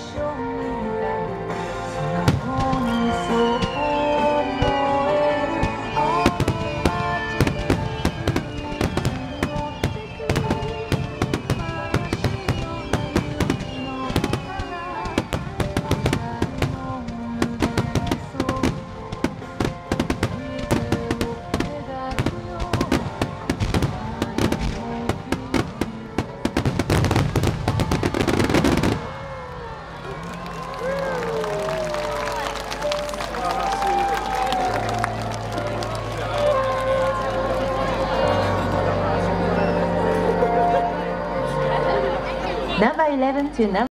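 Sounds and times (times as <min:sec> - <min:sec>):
music: 0:00.0 - 0:29.3, 0:30.1 - 0:43.9
fireworks bursting and crackling: 0:02.3 - 0:38.6.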